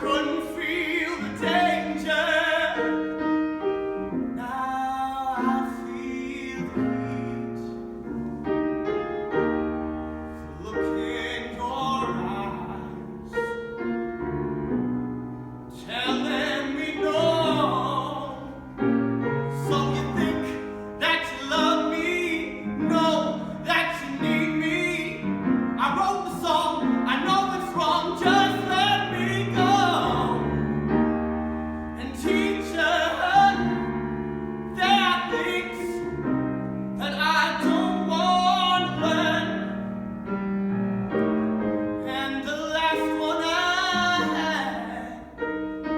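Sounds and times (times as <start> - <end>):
piano accompaniment: 0.0 - 45.9.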